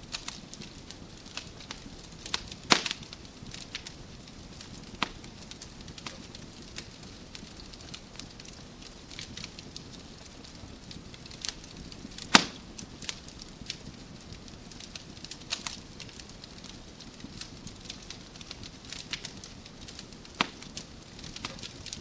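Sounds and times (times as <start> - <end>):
burning logs snapping: 0.0 - 22.0
wood fire crackling: 0.0 - 22.0
loud pop of fire: 0.1 - 10.0, 10.9 - 22.0.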